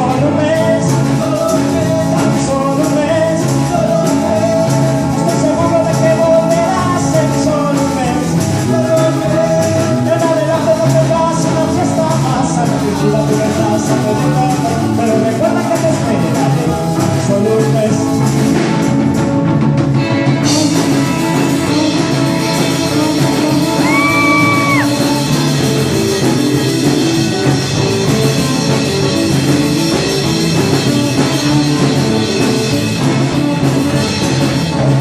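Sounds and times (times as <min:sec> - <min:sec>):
live rock and roll band: 0:00.0 - 0:35.0.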